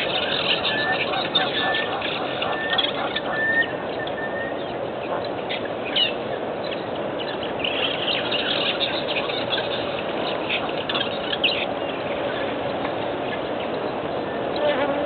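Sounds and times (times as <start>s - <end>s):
birds chirping: 0.0s - 15.0s
steady background noise: 0.0s - 15.0s.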